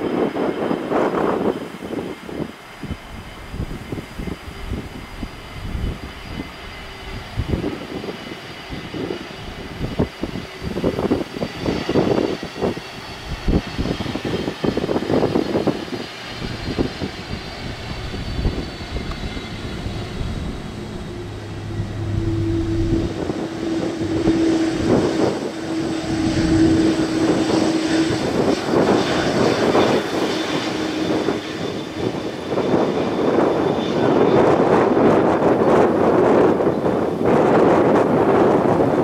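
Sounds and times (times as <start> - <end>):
jet engines whining: 0.0 - 39.0
wind buffeting microphone: 0.0 - 39.0.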